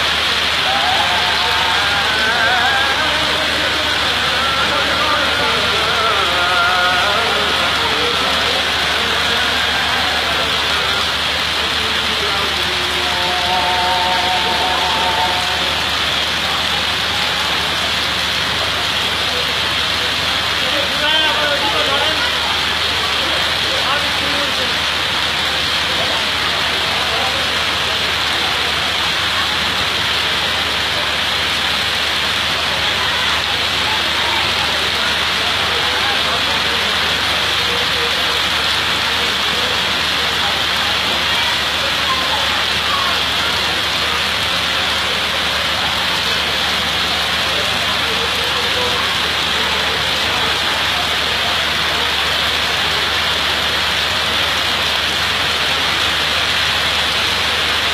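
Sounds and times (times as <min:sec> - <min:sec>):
heavy rain hissing: 0:00.0 - 0:57.9
water streams falling onto platform: 0:00.0 - 0:57.9.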